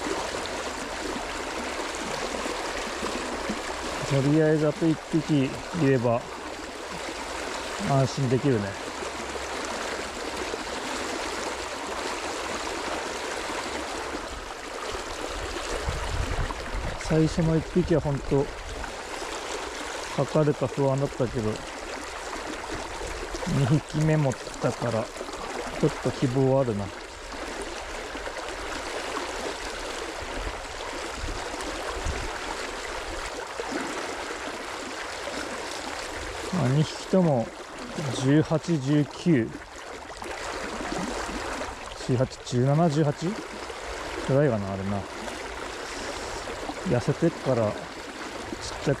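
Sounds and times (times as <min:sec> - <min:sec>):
river water flowing: 0:00.0 - 0:49.0.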